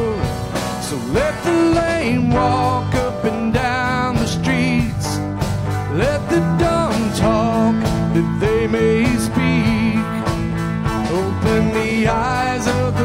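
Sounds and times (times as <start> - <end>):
country gospel band instrumental: 0.0 - 13.0
sliding lead melody: 0.0 - 13.0.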